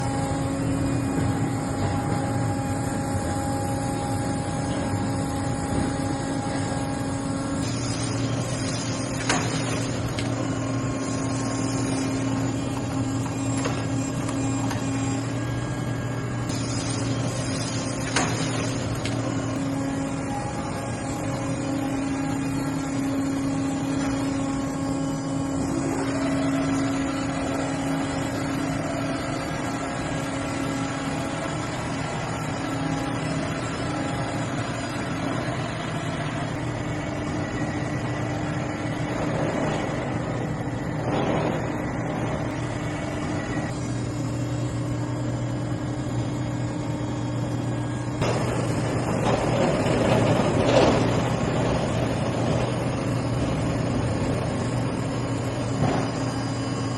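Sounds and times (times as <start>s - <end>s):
milling machine hum: 0.0s - 56.9s.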